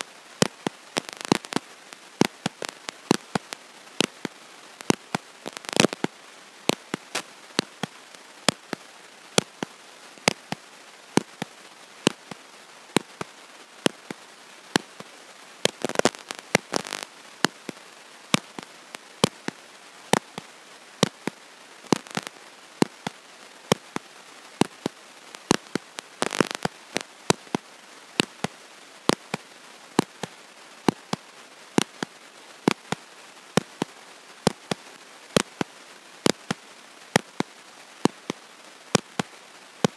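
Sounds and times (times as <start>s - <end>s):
sharp clicks and pops: 0.0s - 29.4s, 30.0s - 33.0s, 33.6s - 39.9s
crackle bursts: 0.0s - 39.9s
steady hiss: 0.0s - 39.9s.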